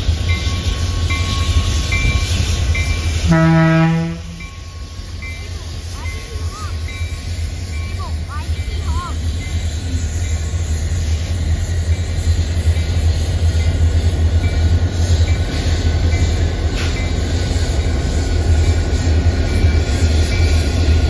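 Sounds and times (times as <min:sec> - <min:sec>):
locomotive engines rumbling: 0:00.0 - 0:21.0.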